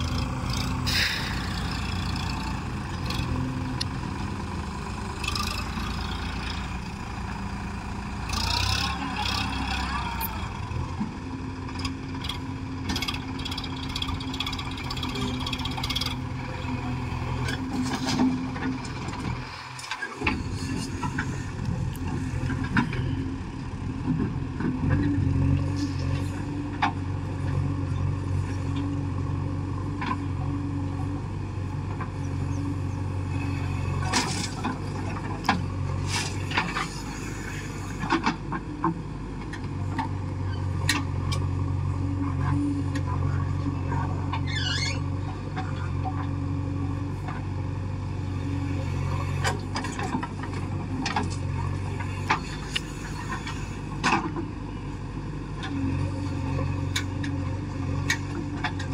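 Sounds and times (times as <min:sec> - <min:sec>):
diesel engine running under load: 0:00.0 - 0:58.9.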